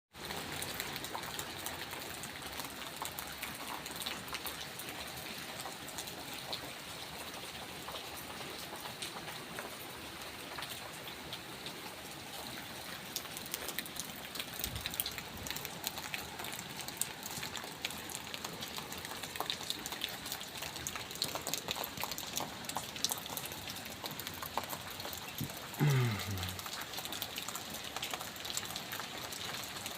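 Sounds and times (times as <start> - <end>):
raindrops ticking: 0.2 - 29.9
steady rain hiss: 0.2 - 29.9.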